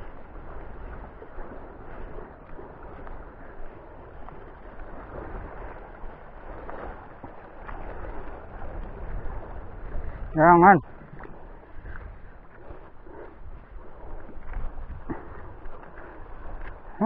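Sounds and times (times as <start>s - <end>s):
sea water washing around rocks: 0.0s - 17.0s
wind buffeting microphone: 0.0s - 17.0s.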